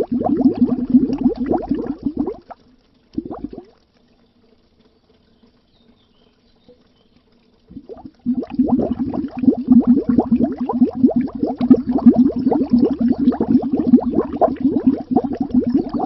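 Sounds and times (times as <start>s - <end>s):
underwater bubbling: 0.0s - 5.4s, 6.7s - 16.0s
faint low hum: 0.0s - 16.0s.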